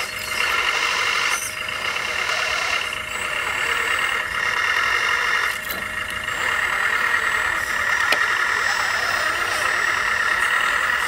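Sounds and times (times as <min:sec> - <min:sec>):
whine of small motors: 0:00.0 - 0:11.0.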